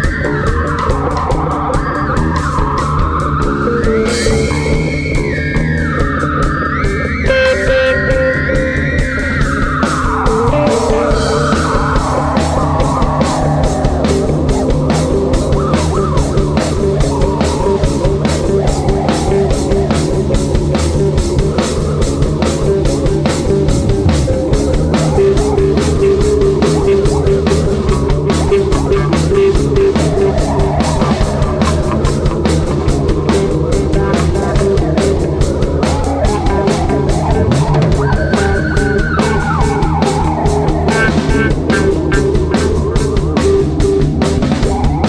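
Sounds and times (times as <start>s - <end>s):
loud rock music: 0.0s - 45.0s.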